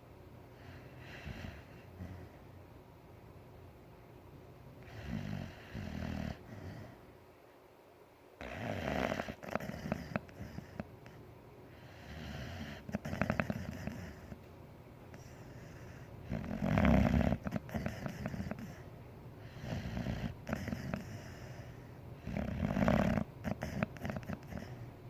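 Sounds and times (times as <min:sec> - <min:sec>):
dog snoring: 0:00.6 - 0:02.5, 0:04.8 - 0:07.0, 0:08.4 - 0:14.5, 0:15.1 - 0:24.9.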